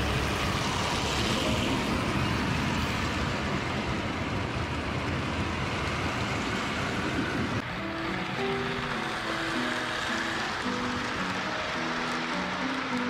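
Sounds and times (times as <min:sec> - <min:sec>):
model train rattling on metal track: 0:00.0 - 0:13.0.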